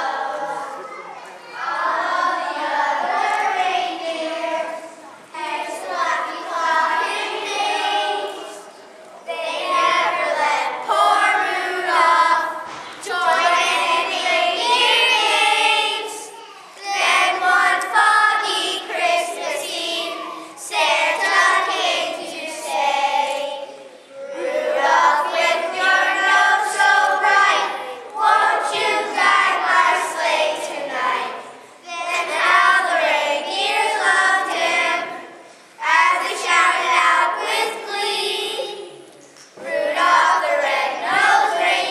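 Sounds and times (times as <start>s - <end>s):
young children singing: 0.0s - 41.9s.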